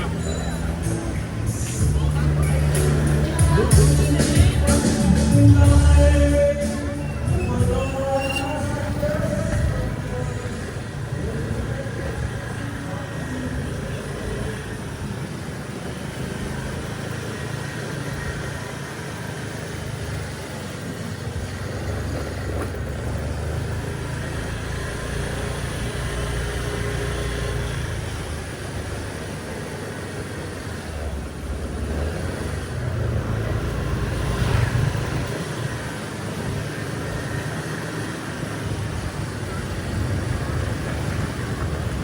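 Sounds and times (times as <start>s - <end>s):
passing vehicle engines: 0.0s - 42.0s.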